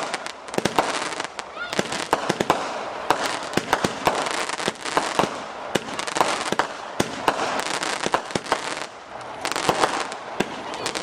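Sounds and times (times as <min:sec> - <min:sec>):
fireworks bangs and cracks: 0:00.0 - 0:11.0
fireworks crackling: 0:00.0 - 0:11.0.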